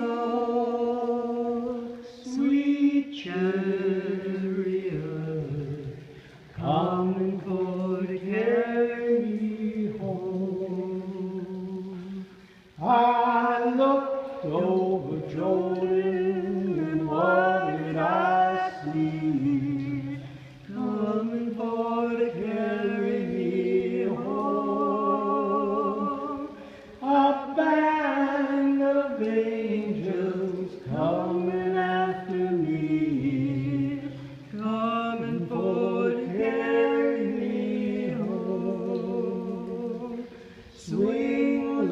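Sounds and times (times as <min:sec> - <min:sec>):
man and woman singing unaccompanied: 0:00.0 - 0:41.9.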